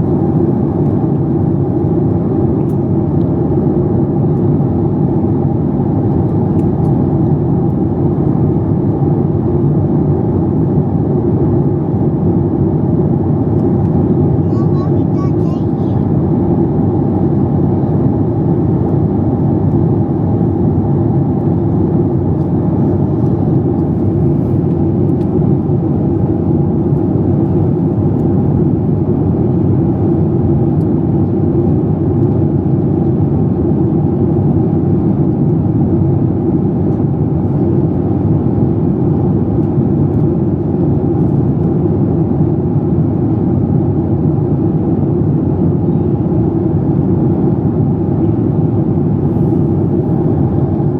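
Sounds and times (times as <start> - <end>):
jet engines drone: 0.0 - 50.9.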